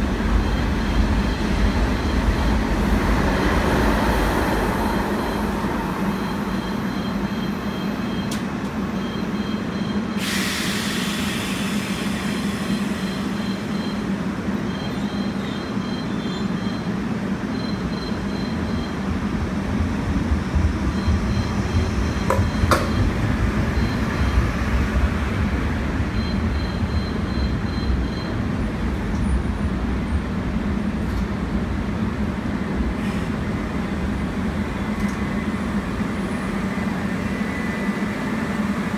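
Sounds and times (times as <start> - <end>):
electric train rumbling: 0.0 - 38.9.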